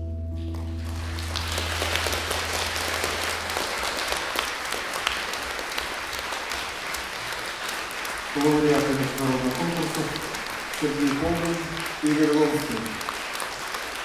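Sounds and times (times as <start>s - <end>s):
audience applauding: 0.4s - 14.0s.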